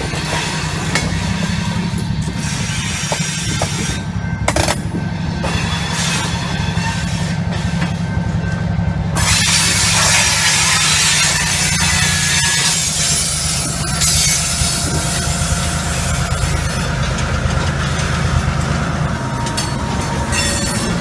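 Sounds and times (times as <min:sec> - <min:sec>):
diesel locomotive engine drone: 0:00.0 - 0:21.0
train wheels grinding on rails: 0:00.0 - 0:21.0.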